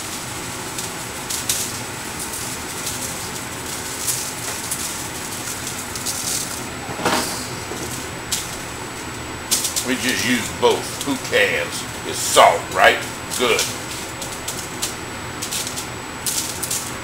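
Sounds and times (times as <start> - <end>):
salt sprinkling onto meat: 0.0 - 6.6, 9.5 - 17.0
steady background hum: 0.0 - 17.0.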